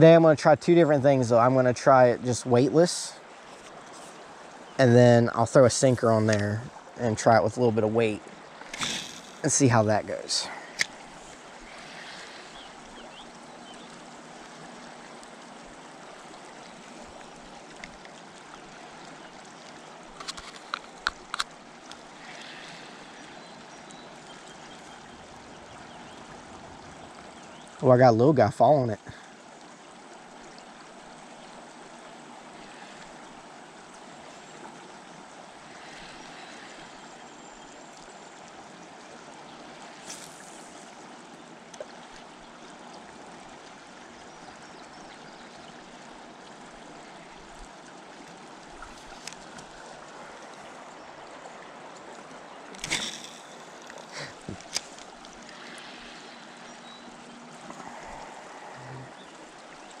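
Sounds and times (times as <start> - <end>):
river water running: 0.0 - 60.0.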